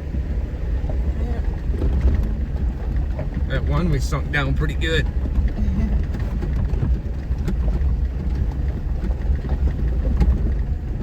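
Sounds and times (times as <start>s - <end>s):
vehicle body rattling: 0.0s - 11.0s
vehicle engine rumble: 0.0s - 11.0s.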